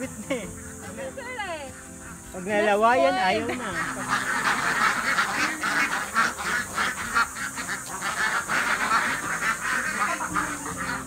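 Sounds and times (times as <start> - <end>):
flock of ducks quacking: 0.0 - 11.0.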